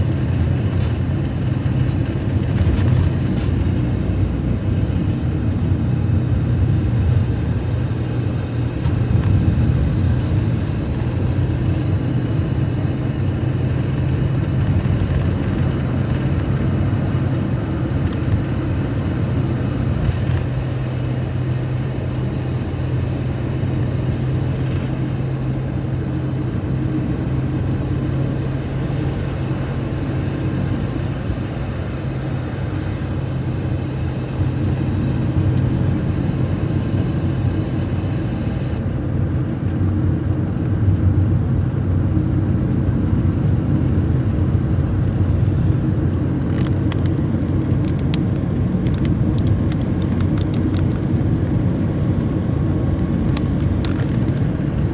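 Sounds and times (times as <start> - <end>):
road and engine rumble in car: 0.0 - 54.9.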